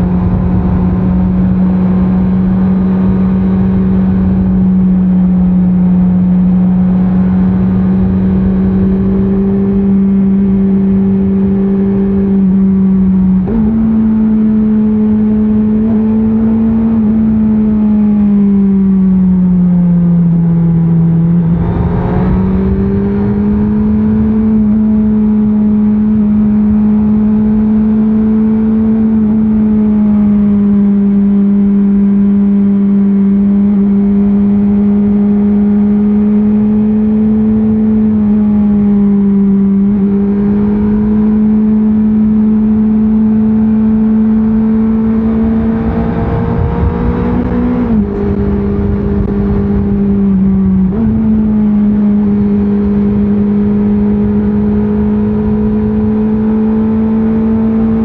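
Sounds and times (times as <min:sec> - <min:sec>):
motorcycle engine at high revs: 0:00.0 - 0:58.0
road and wind noise: 0:00.0 - 0:58.0.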